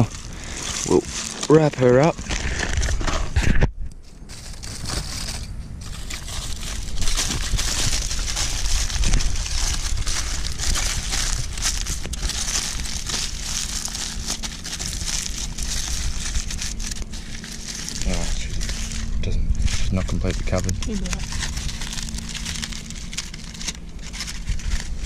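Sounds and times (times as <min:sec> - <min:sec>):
aluminium foil crinkling: 0:00.0 - 0:25.0.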